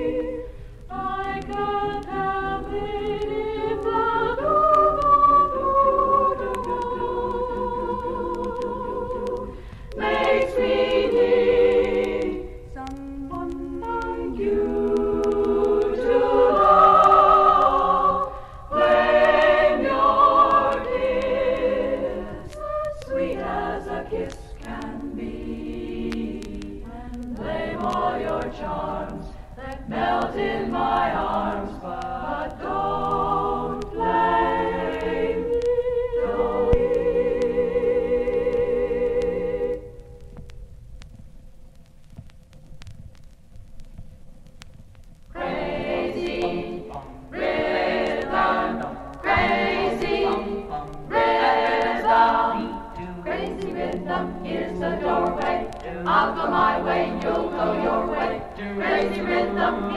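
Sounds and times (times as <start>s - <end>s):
women singing a cappella: 0.0s - 40.0s, 45.3s - 59.9s.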